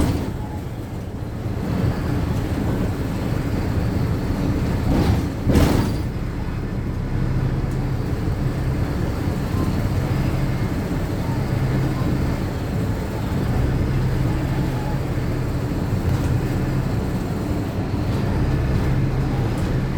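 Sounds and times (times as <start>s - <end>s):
bus engine droning: 0.0s - 19.9s
road rumble: 0.0s - 19.9s.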